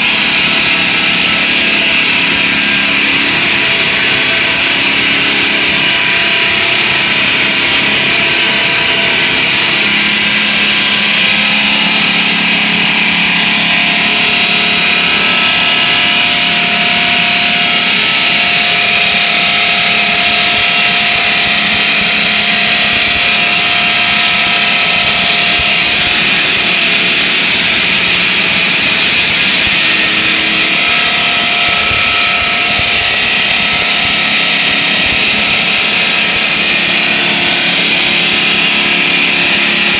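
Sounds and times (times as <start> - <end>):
saw grinding through concrete: 0.0 - 39.9.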